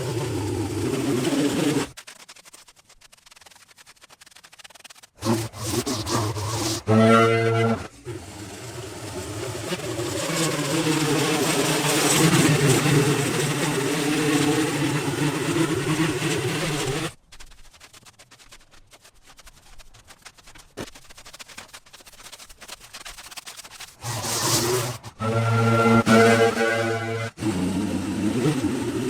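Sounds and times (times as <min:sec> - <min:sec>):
faint clicks and scraping: 0:00.0 - 0:27.3.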